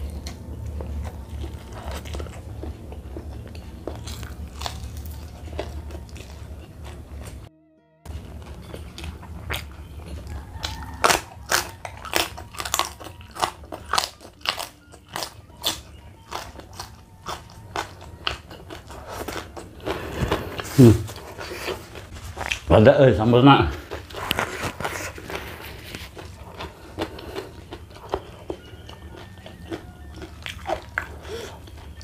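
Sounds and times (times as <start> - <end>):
person chewing raw vegetables: 0.0 - 7.5, 8.1 - 22.7, 23.6 - 32.0.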